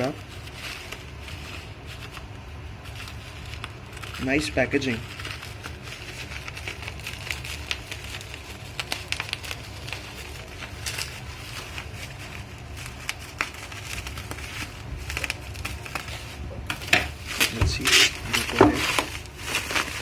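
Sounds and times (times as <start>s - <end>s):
bubble wrap crinkling: 0.0s - 20.0s
steady low hum: 0.0s - 20.0s.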